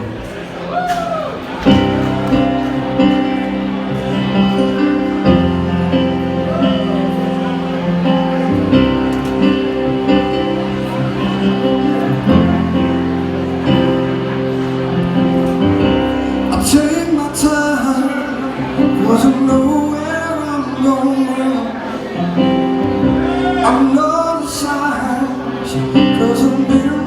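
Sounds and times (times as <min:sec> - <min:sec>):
held guitar chords: 0:00.0 - 0:27.0
live rock band playing: 0:00.0 - 0:27.0.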